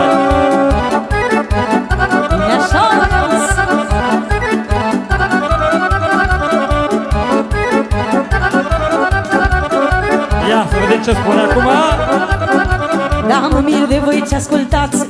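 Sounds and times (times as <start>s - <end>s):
accordion fast melody: 0.0s - 15.0s.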